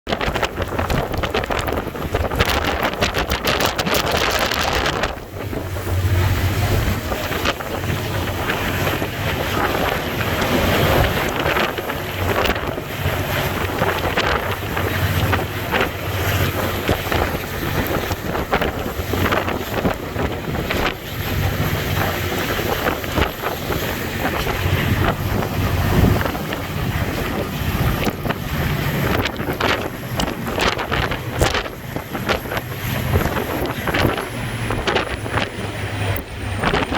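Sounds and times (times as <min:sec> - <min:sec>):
train rumbling: 0:00.1 - 0:36.9
wind buffeting microphone: 0:00.1 - 0:36.9.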